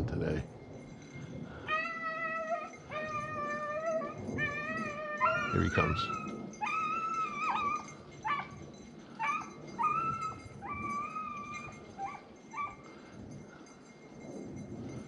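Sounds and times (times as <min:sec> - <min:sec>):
hounds baying and yelping: 0:01.0 - 0:13.9.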